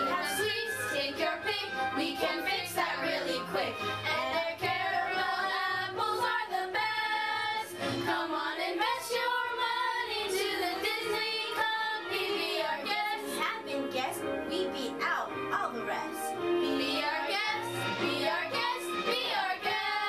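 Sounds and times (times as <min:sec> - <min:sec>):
young women singing in unison: 0:00.0 - 0:13.6, 0:16.6 - 0:20.0.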